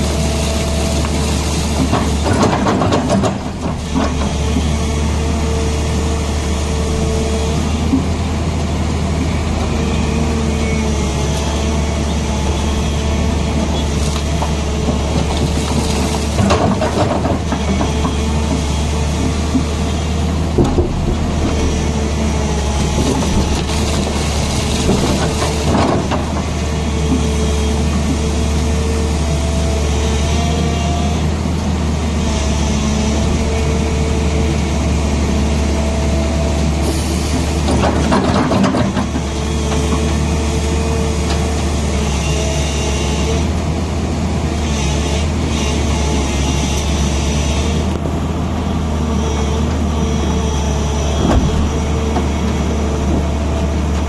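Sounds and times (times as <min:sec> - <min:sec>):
engine whine: 0:00.0 - 0:54.0
excavator diesel engine: 0:00.0 - 0:54.0.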